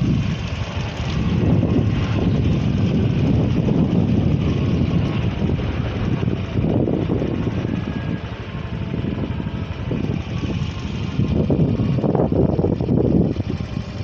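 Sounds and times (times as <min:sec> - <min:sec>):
low rumble of vehicle noise: 0:00.0 - 0:14.0.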